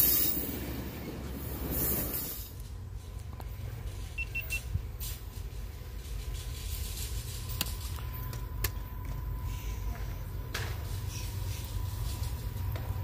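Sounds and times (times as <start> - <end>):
distant diesel train rumble: 0.0 - 13.0.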